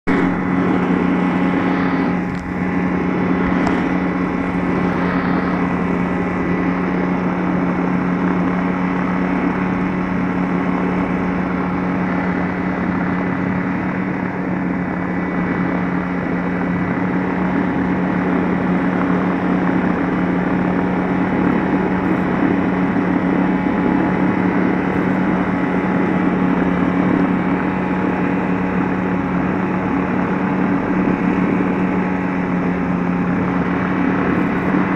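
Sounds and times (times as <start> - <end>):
light aircraft engine droning: 0.0 - 34.9.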